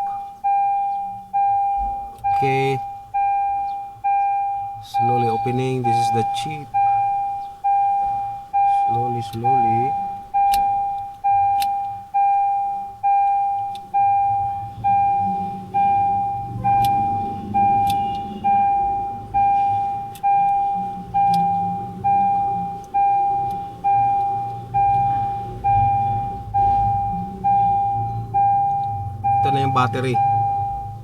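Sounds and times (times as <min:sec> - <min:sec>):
car warning chime: 0:00.0 - 0:31.0.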